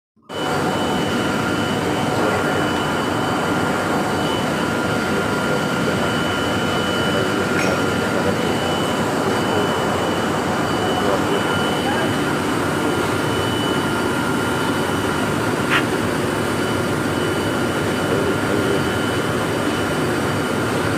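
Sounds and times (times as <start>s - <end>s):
faint high whine: 0.2s - 20.9s.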